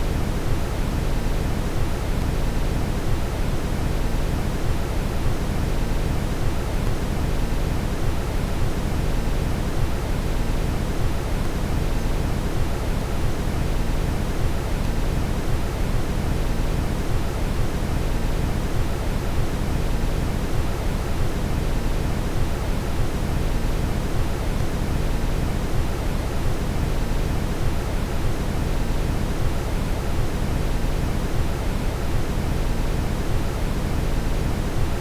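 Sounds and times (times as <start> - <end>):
brown noise hiss: 0.0 - 35.0.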